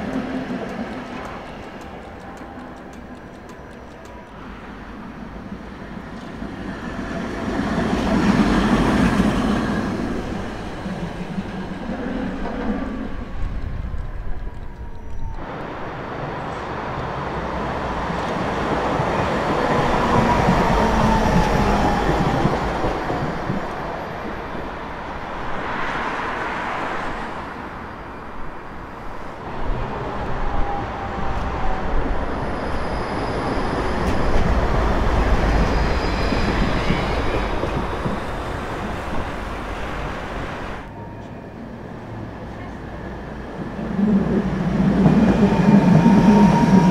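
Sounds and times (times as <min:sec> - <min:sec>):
tram wheels rumbling on rail: 0:00.0 - 0:46.9.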